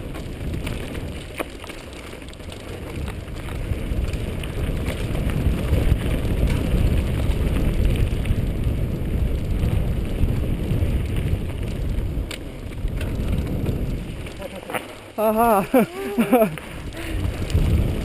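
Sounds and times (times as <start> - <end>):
bike clicks and rattles: 0.0 - 18.0
bike tyre noise: 0.0 - 18.0
wind rushing over microphone: 2.6 - 18.0.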